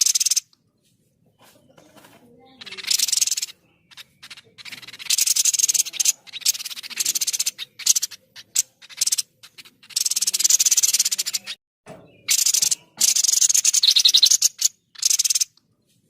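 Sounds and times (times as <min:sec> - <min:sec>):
bird rattling trills: 0:00.0 - 0:00.5, 0:01.9 - 0:11.6, 0:12.2 - 0:15.6.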